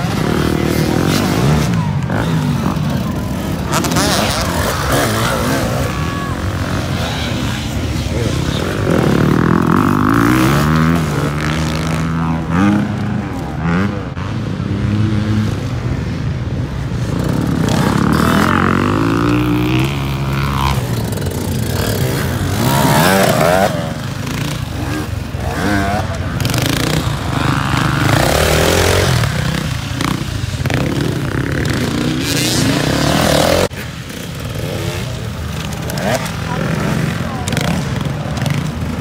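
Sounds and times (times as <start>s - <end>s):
dirt bike engine revving: 0.0s - 16.2s, 17.0s - 39.0s.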